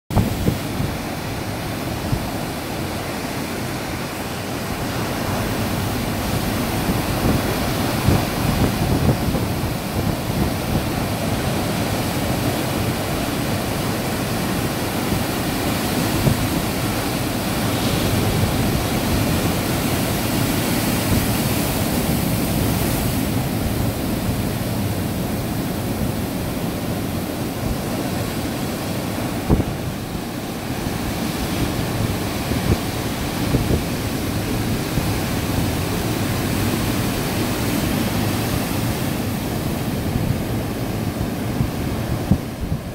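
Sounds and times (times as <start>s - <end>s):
ocean surf breaking: 0.1s - 42.9s
wind buffeting microphone: 0.1s - 42.9s.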